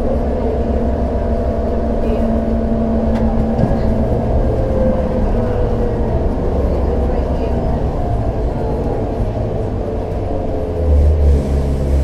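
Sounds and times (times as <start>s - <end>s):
city bus engine droning: 0.0s - 12.0s.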